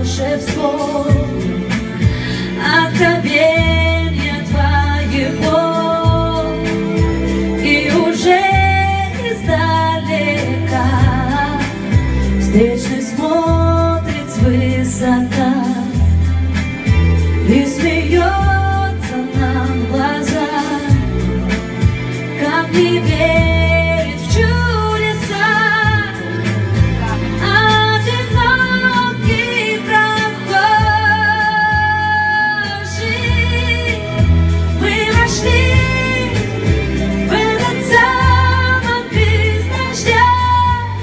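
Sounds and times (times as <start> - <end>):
pop band with steady beat: 0.0 - 41.0.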